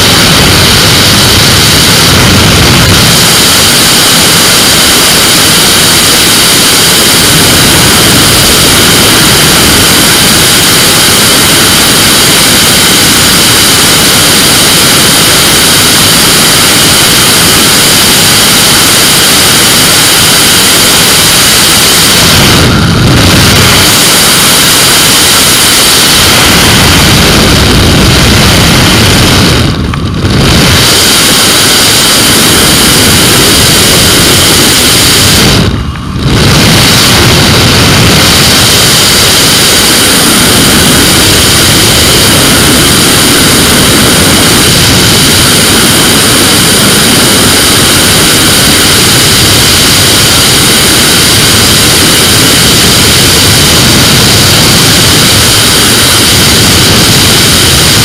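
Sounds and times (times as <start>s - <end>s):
microlight engine: 0.0s - 58.0s
wind rush: 0.0s - 58.0s.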